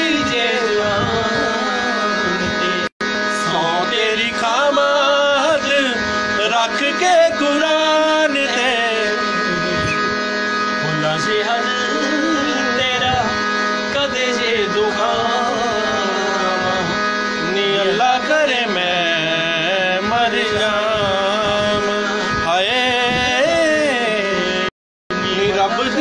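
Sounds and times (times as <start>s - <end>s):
man singing ornamented melody: 0.0s - 26.0s.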